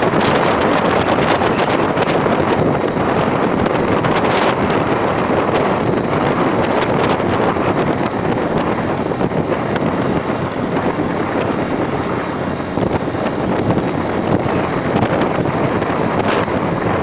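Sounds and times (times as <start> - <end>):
low engine hum: 0.0 - 17.0
wind rushing over microphone: 0.0 - 17.0.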